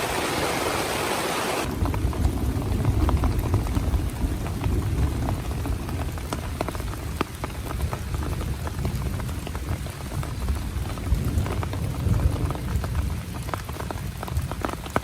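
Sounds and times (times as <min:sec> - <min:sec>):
heavy rain falling: 0:00.0 - 0:15.0
raindrops ticking: 0:01.6 - 0:15.0.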